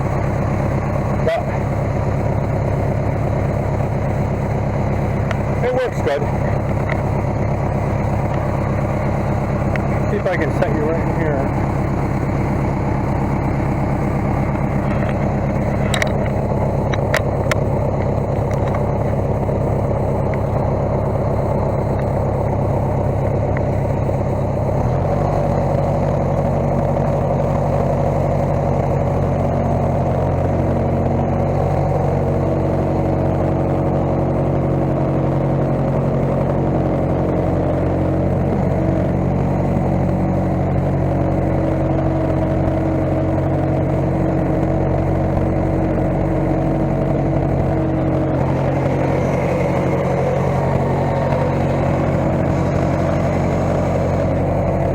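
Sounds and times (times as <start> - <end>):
skid steer engine running: 0.0 - 54.9.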